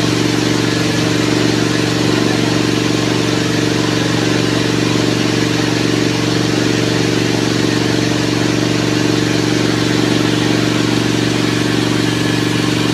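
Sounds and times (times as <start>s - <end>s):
loud low hum: 0.0s - 12.9s.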